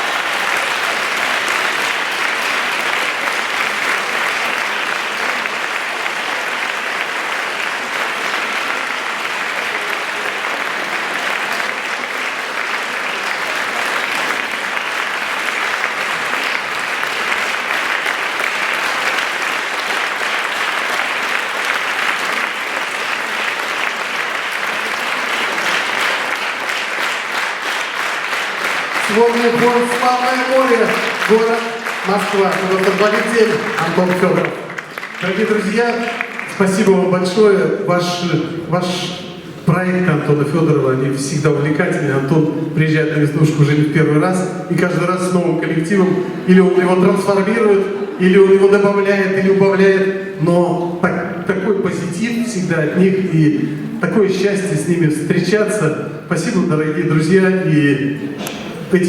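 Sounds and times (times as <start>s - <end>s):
audience applauding: 0.0s - 50.6s.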